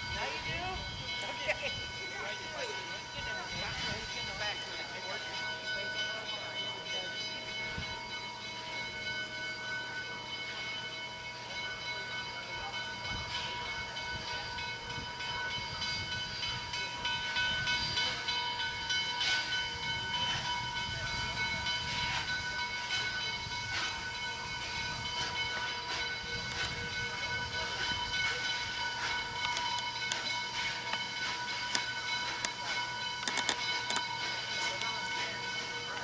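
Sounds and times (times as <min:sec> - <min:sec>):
steady high tones: 0:00.0 - 0:36.0
steam hissing: 0:00.0 - 0:36.0
steam locomotive chuffing: 0:00.0 - 0:36.0.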